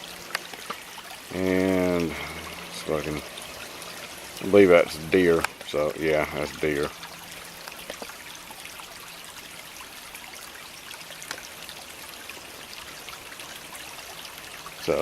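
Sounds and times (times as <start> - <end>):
creek trickling: 0.0 - 15.0
small water splashes: 0.0 - 15.0.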